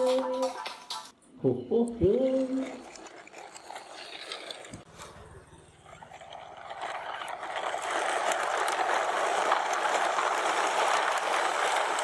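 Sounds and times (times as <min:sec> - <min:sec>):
toy truck wheels rattling on asphalt: 0:02.0 - 0:12.0.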